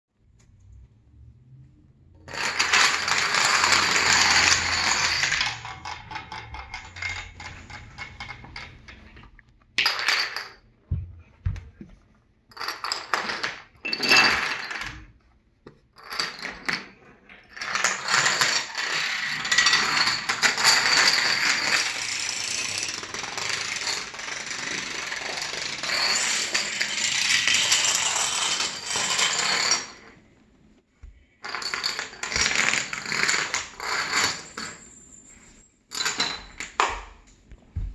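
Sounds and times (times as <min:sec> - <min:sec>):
dominoes clattering on tile floor: 0:02.2 - 0:10.6, 0:12.5 - 0:15.2, 0:16.0 - 0:30.1, 0:31.4 - 0:37.1.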